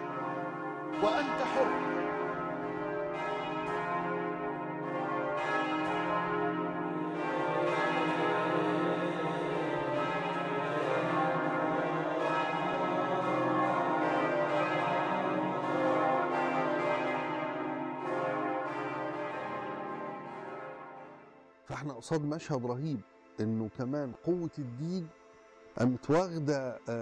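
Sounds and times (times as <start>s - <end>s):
many bells ringing: 0.0s - 25.1s.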